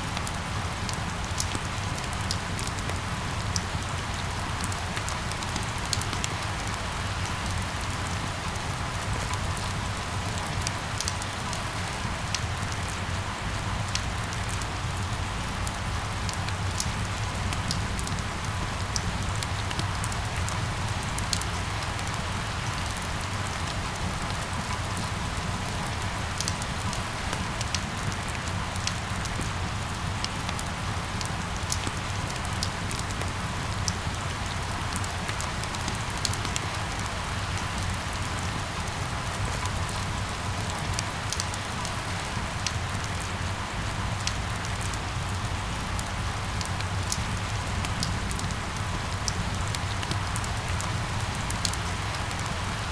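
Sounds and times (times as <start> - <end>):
rain falling: 0.0 - 52.9.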